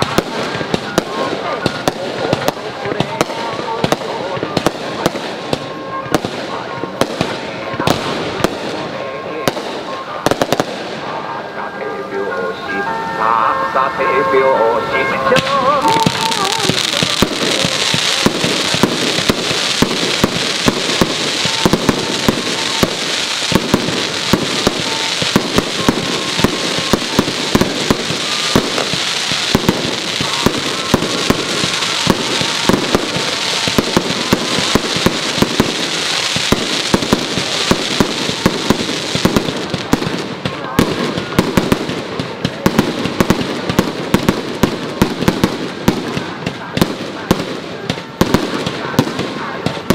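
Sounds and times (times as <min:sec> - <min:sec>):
fireworks bangs and crackles: 0:00.0 - 0:12.0, 0:13.8 - 0:49.9.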